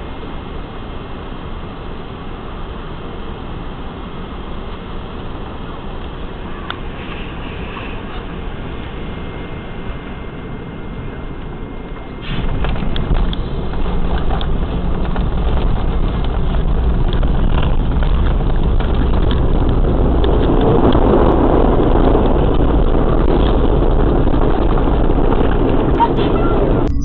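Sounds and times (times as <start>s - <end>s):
vehicle road rumble: 0.0s - 27.0s.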